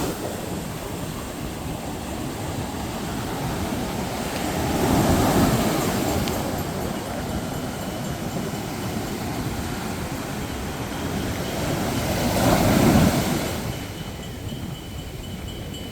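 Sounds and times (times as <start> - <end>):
sea waves washing in: 0.0 - 14.4.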